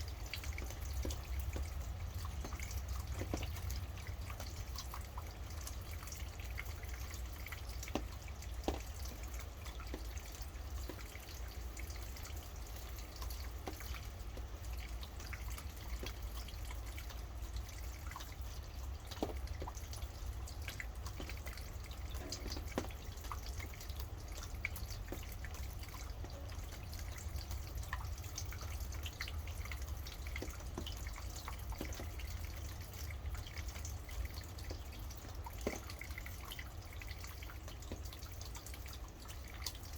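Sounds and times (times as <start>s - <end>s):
rain drops landing: 0.0s - 39.9s.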